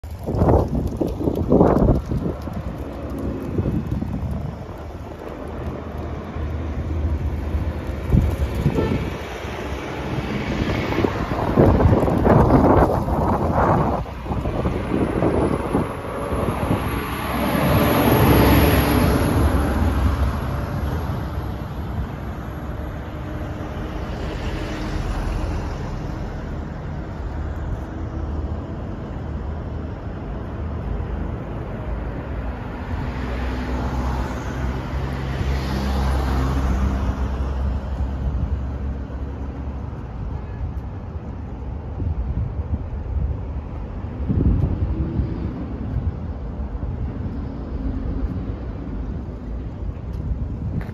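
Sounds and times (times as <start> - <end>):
road traffic rumble: 0.0 - 50.9
vehicles passing: 0.0 - 50.9.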